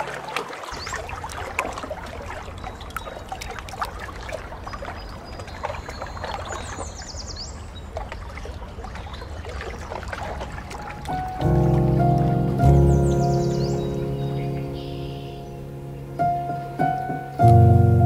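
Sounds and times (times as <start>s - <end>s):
pool water lapping and splashing: 0.0s - 18.0s.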